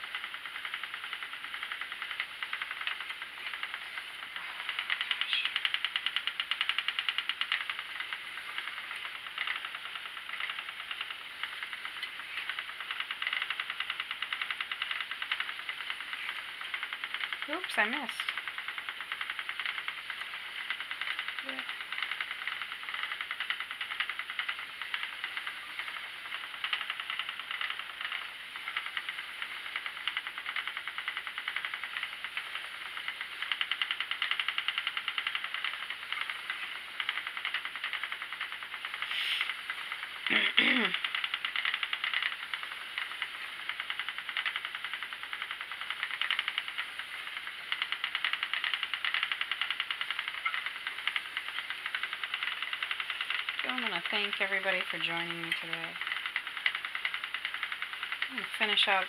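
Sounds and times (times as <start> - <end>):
spinning wheel ticking: 0.0 - 59.0.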